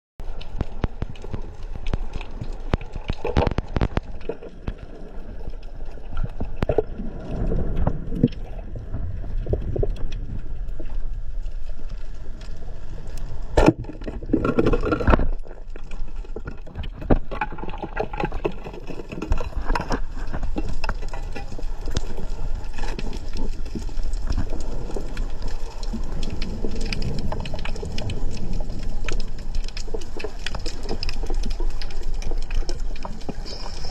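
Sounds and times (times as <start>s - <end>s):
muffled underwater wash: 0.2s - 33.9s
sharp underwater clicks and crackles: 0.2s - 33.9s.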